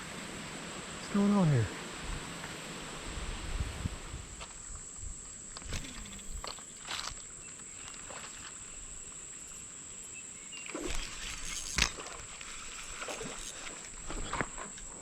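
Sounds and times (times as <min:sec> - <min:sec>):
faint high-pitched whine: 0:00.0 - 0:15.0
light hiss: 0:00.0 - 0:15.0.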